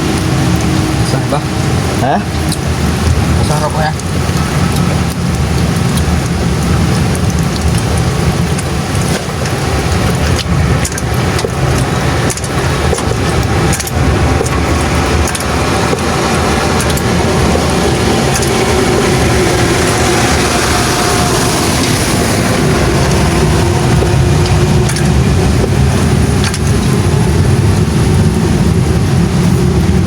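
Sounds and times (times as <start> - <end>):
vehicle engine rumbling: 0.0 - 30.0
sharp clicks and knocks: 2.4 - 20.5, 21.8 - 28.3.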